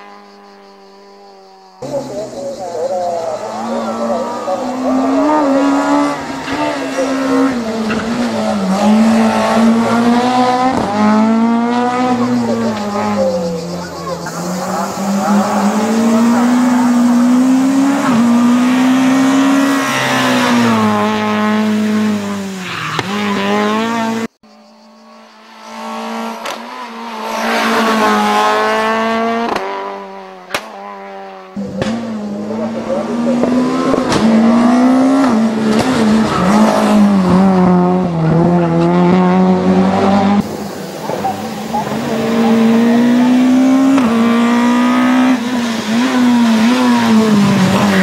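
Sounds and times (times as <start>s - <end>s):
racing car engine revving: 0.0s - 48.0s.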